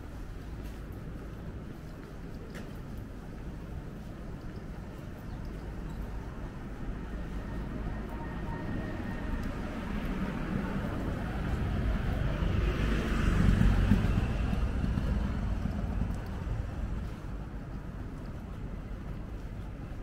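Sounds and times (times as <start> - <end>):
distant traffic hum: 0.0 - 20.0.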